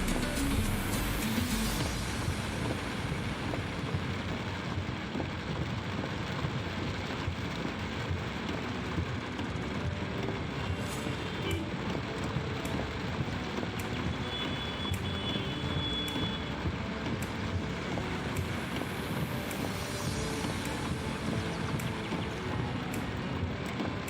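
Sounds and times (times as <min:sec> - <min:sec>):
traffic on wet road: 0:00.0 - 0:24.0.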